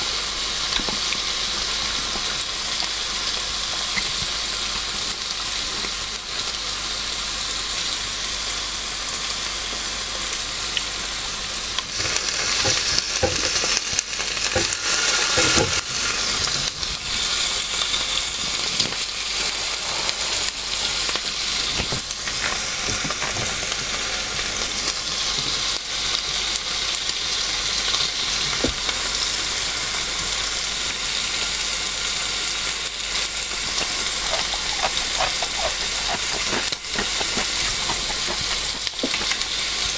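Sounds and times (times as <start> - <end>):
meat sizzling on a grill plate: 0.0 - 39.9.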